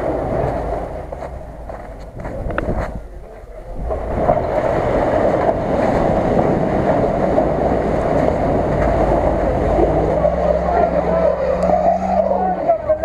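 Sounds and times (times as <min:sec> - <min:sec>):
car engine under load: 0:00.0 - 0:13.0
water splashing and ice churning: 0:00.0 - 0:13.0.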